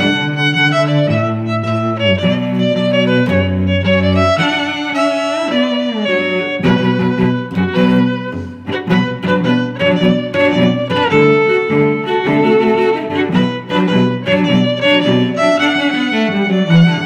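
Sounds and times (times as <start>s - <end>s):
bowed strings music: 0.0s - 17.0s.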